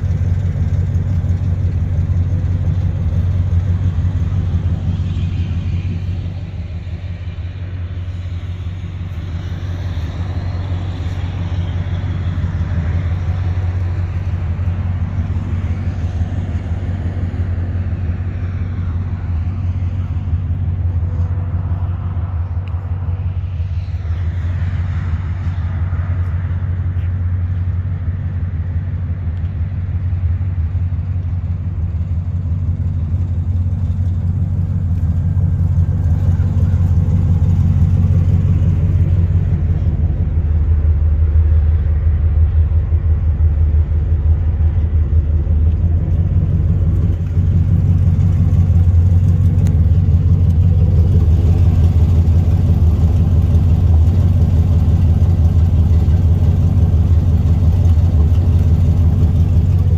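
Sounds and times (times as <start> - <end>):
pickup truck engine idling: 0.0 - 59.9.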